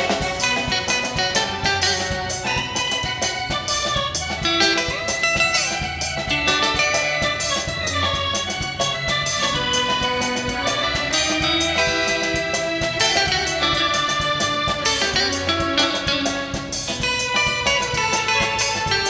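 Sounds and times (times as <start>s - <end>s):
live band music with held notes: 0.0s - 19.0s
steady drum beat: 0.0s - 19.0s.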